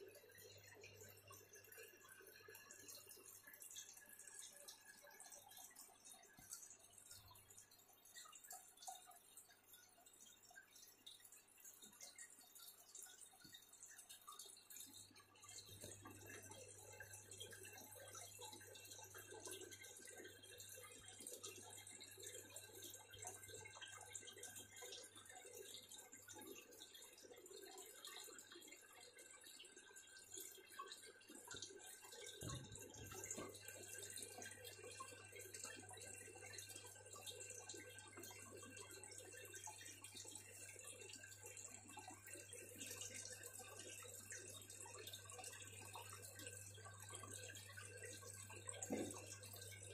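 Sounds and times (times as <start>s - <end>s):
aquarium water trickling: 0.0s - 49.9s.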